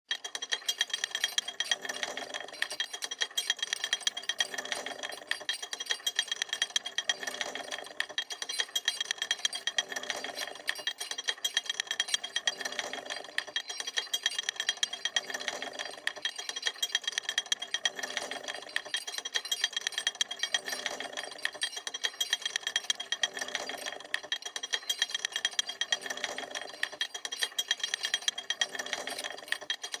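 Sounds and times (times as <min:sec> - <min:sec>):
chain rattling over pulley: 0:00.1 - 0:30.0.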